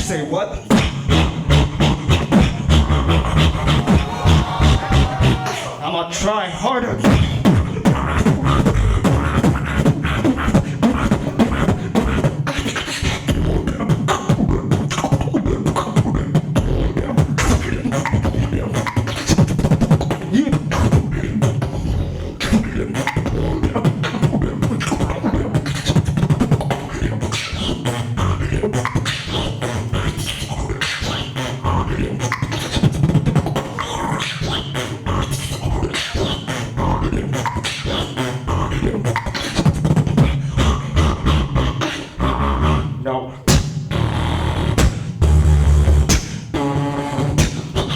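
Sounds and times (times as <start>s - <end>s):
vocal beatboxing: 0.0s - 47.9s.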